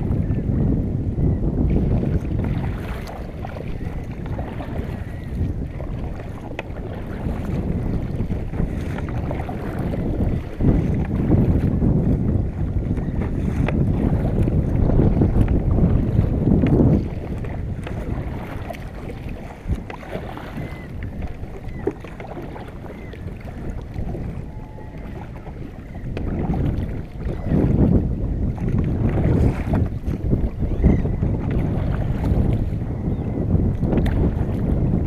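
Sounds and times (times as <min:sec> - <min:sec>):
water sloshing around kayak: 0:00.0 - 0:35.0
wind buffeting microphone: 0:00.0 - 0:35.0.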